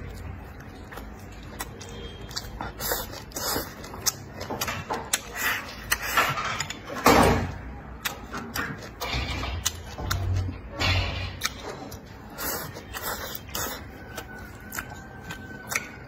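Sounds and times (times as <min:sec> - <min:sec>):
person chewing food: 0:00.0 - 0:07.0, 0:07.9 - 0:16.0.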